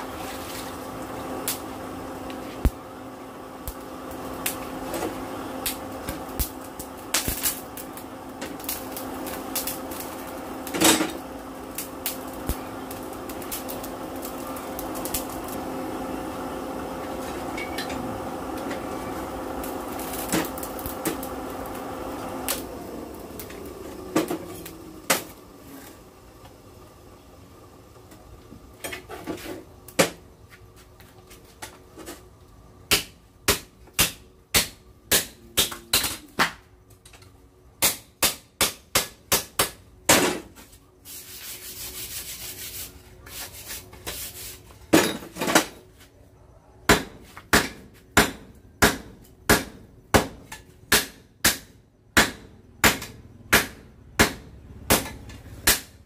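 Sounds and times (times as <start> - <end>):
forge blower humming: 0.0 - 56.0.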